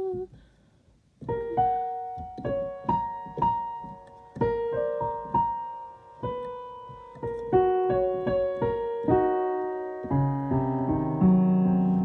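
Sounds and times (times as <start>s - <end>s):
slow piano notes and chords: 1.2s - 12.0s.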